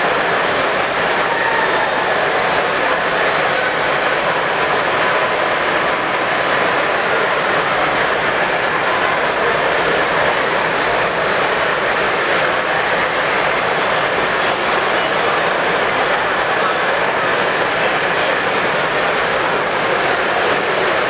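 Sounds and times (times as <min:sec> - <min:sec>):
exhibition hall din: 0:00.0 - 0:21.0.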